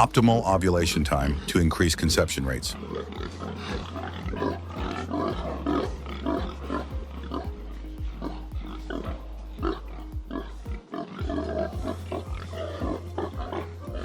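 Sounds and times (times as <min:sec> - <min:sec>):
background music with steady beat: 0:00.0 - 0:14.0
pigs grunting and squealing: 0:00.0 - 0:14.0.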